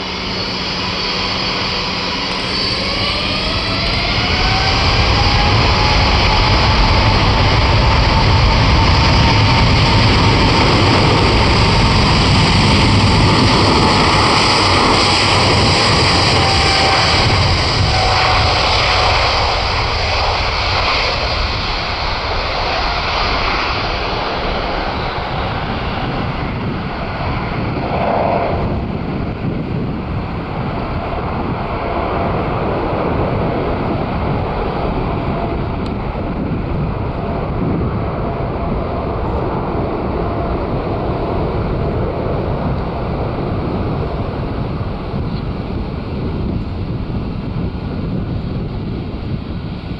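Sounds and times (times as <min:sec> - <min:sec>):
jet engines hissing: 0:00.0 - 0:49.9
jet low rumble: 0:00.0 - 0:49.9.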